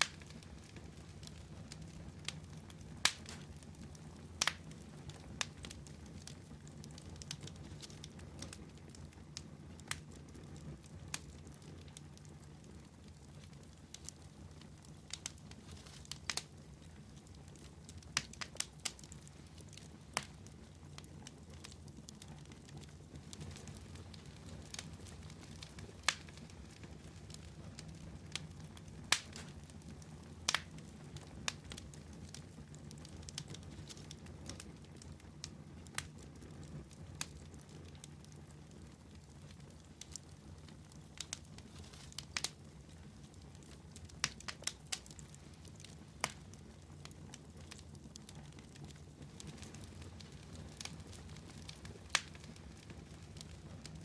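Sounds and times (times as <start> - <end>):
campfire crackling: 0.0 - 54.0
fire pops and snaps: 0.0 - 54.0.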